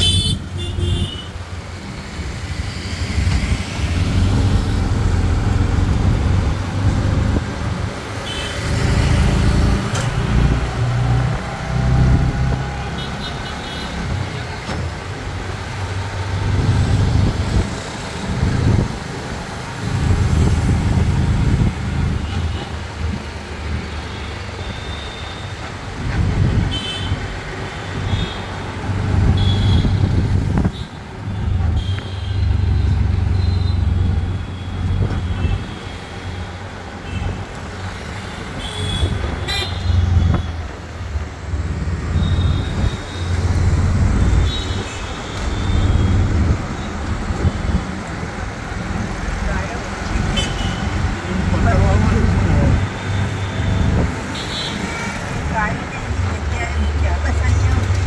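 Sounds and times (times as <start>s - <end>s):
auto-rickshaw engine: 0.0s - 58.0s
road noise: 0.0s - 58.0s.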